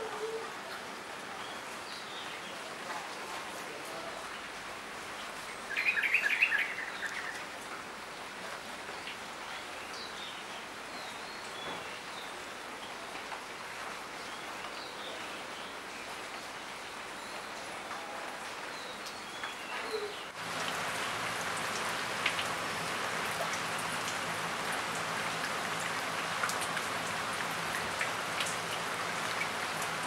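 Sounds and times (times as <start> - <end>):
rain falling on trees: 0.0 - 30.0.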